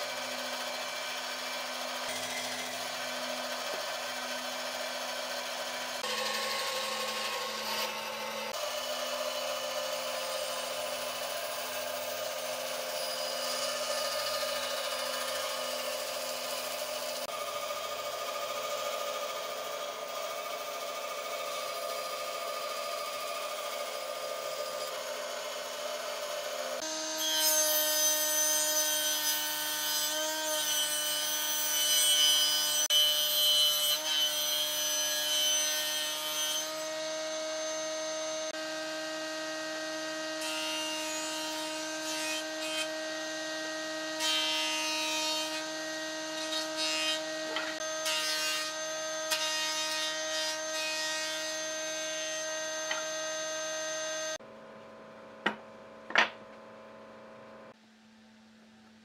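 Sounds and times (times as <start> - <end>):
woodworking machine motor hum: 0.0 - 27.1, 36.8 - 57.7
jointer planing a log: 0.0 - 27.6, 28.2 - 54.4.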